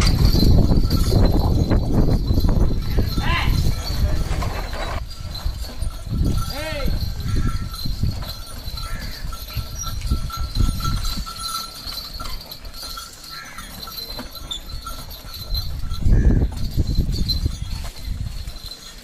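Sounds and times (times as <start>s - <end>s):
hooves plodding on dirt: 0.0s - 19.0s
wooden cart rumbling: 0.0s - 19.0s.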